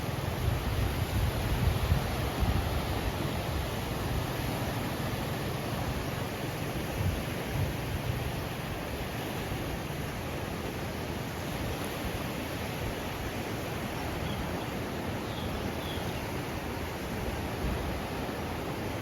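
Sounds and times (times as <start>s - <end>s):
sea surf rushing on beach: 0.0s - 19.0s.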